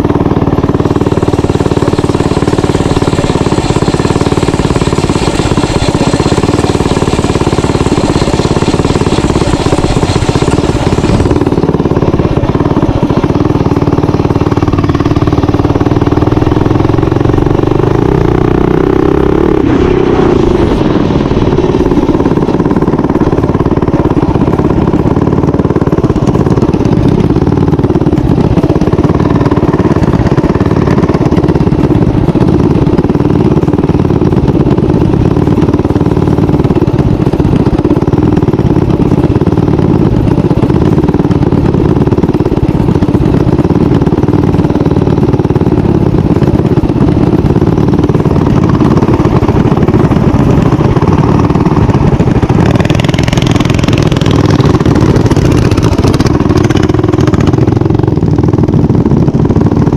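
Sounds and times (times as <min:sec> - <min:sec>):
small bike engine running: 0:00.0 - 0:59.9.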